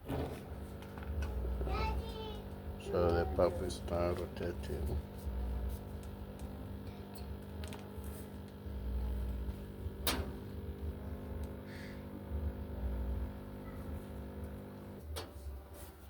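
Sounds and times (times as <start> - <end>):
drain pump humming: 0.0 - 15.2.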